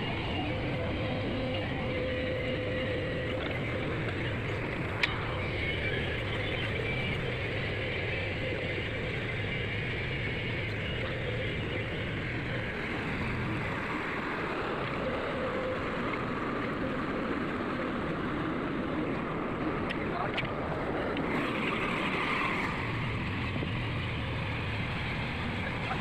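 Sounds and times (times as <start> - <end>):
diesel excavator engine running: 0.0 - 26.0.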